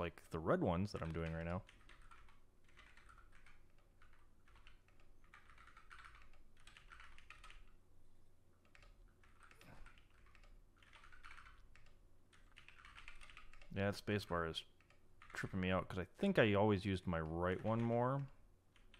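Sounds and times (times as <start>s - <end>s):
mechanical keyboard typing: 0.8s - 7.8s, 8.6s - 15.8s, 16.4s - 18.9s.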